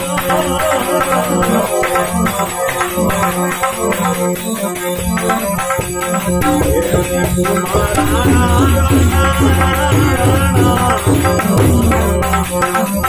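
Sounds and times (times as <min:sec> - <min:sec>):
instrumental accompaniment with beat: 0:00.0 - 0:13.0
man singing devotional song: 0:00.0 - 0:13.0.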